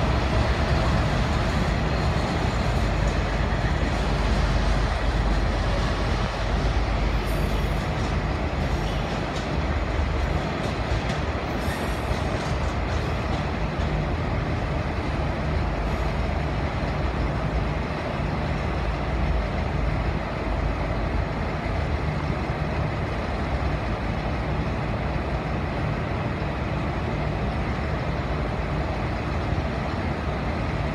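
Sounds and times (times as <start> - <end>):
diesel train rumbling over tracks: 0.0 - 30.9.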